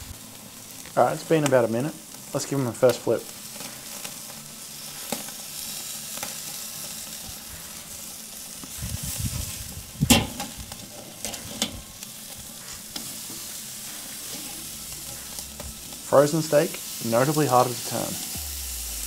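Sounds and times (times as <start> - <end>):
steaks sizzling on a grill: 0.0 - 19.0.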